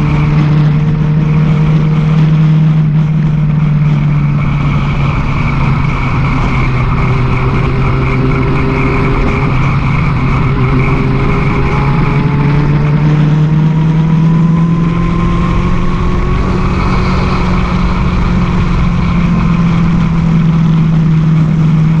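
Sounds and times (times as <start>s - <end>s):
motorcycle engine running: 0.0s - 22.0s
wind rumbling on microphone: 0.0s - 22.0s.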